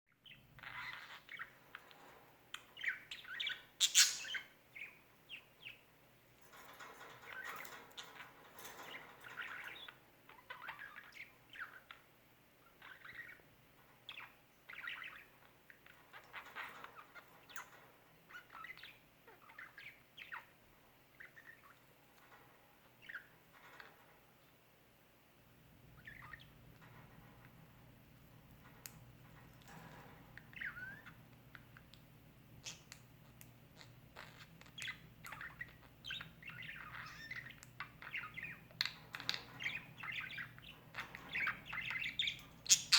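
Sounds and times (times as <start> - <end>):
budgerigars chirping and chattering: 0.2 - 24.1, 25.9 - 27.7, 28.3 - 42.9.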